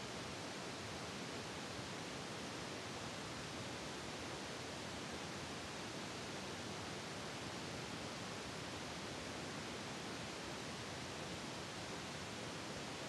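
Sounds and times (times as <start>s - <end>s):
steady static hiss: 0.0s - 13.0s.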